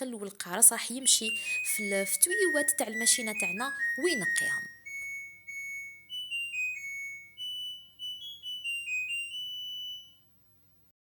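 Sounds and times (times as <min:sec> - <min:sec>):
dishwasher beeped melody: 0:00.9 - 0:10.4.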